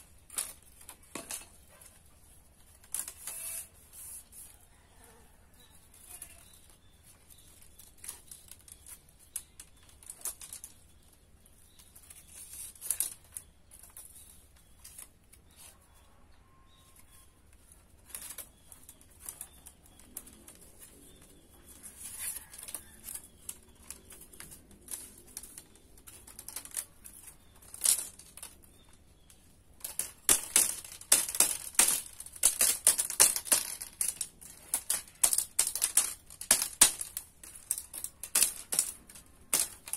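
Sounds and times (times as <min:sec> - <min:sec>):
bamboo strips clicking and rustling: 0:00.0 - 0:39.9.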